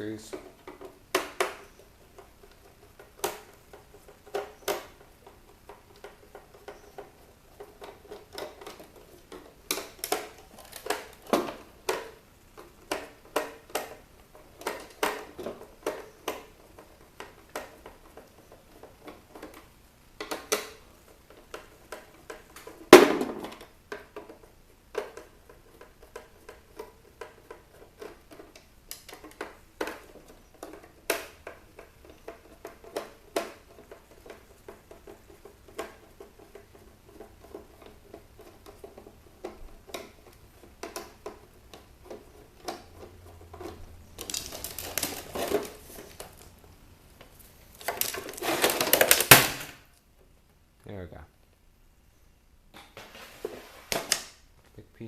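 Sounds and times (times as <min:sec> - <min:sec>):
plastic and metal parts handled: 0:00.2 - 0:50.4.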